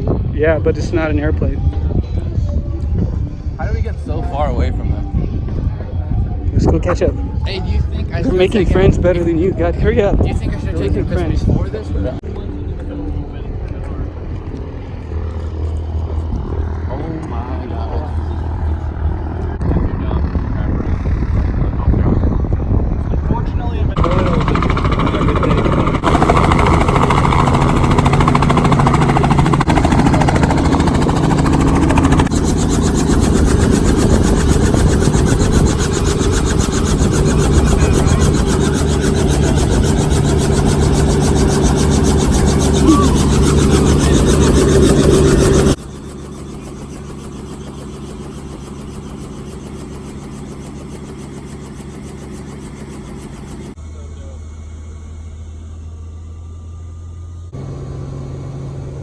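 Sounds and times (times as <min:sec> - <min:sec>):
helicopter turbine and rotor: 0:00.0 - 0:59.0.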